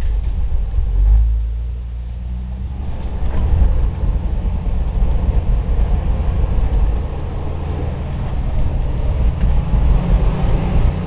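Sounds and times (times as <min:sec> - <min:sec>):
engine low rumble: 0:00.0 - 0:11.0
loud rough noise: 0:00.0 - 0:11.0.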